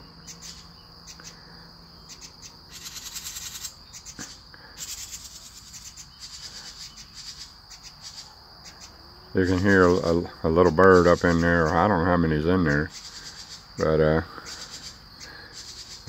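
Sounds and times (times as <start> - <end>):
insect pulsing trills: 0.0 - 16.0
insects droning: 0.0 - 16.0.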